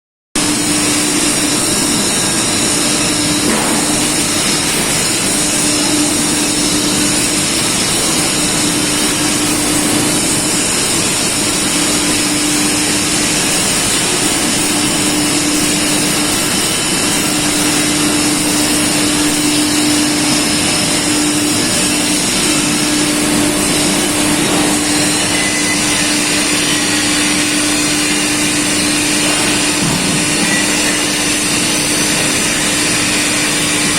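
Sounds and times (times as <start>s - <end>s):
sprayer hum: 0.4s - 33.9s
paint sprayer hissing: 1.0s - 33.9s.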